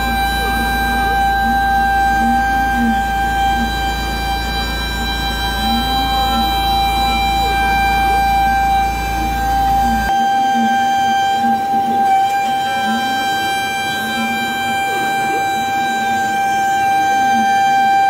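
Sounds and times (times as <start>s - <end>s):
milling spindle high whine: 0.0s - 18.0s
sliding motor tones: 0.0s - 18.0s.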